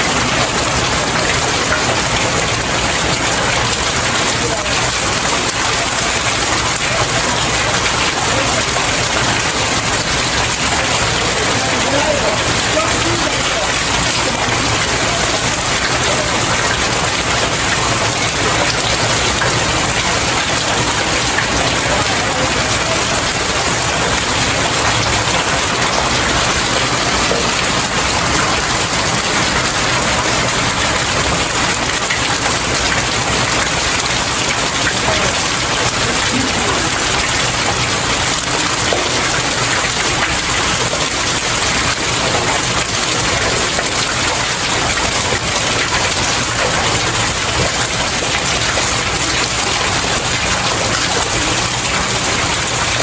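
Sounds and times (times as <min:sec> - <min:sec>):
rain falling on stairs: 0:00.0 - 0:53.0.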